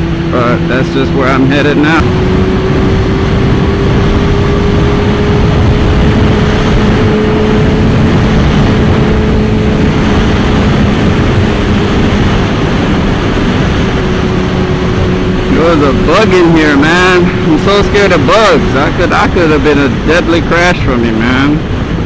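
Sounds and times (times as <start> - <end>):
motorcycle engine cruising: 0.0 - 22.0
wind rush on microphone: 0.0 - 22.0.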